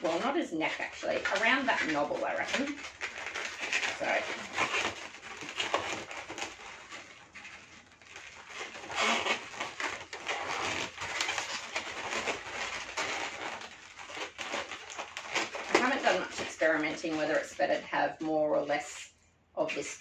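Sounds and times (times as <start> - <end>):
balloons rubbing and squeaking: 0.0 - 18.9.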